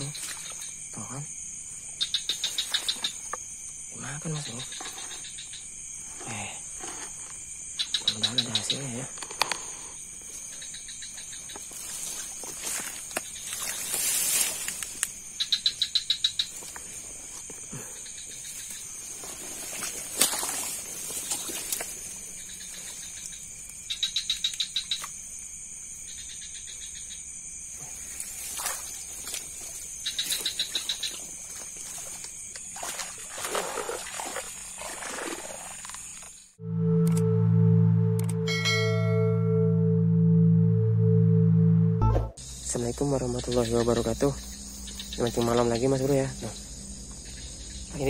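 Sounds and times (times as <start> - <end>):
rapid pulsing insect chirp: 0.0 - 38.4, 39.5 - 48.0
insects buzzing drone: 0.0 - 48.0.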